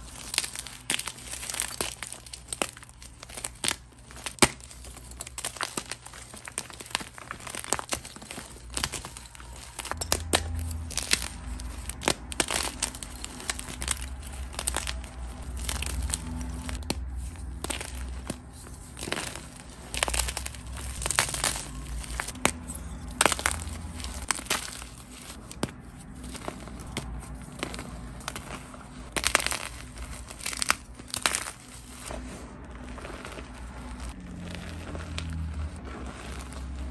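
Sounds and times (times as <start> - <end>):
chalk blocks snapping and crunching: 0.0 - 36.9.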